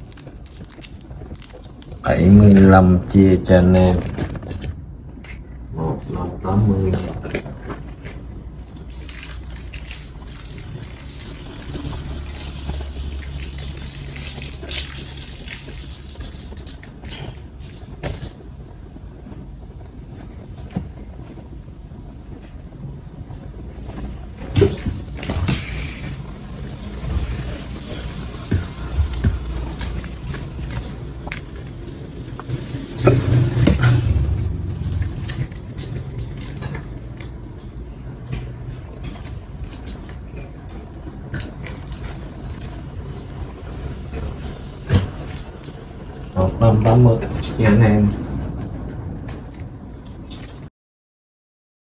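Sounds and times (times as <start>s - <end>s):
road traffic rumble: 0.0s - 20.5s, 23.2s - 50.3s
low steady hum: 0.0s - 50.7s
rustling handling noise: 0.0s - 50.7s.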